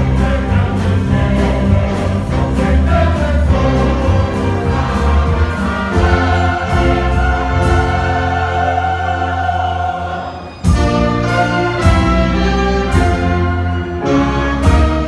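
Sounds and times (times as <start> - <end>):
choir singing a hymn: 0.0 - 13.8
orchestra playing: 0.0 - 15.0.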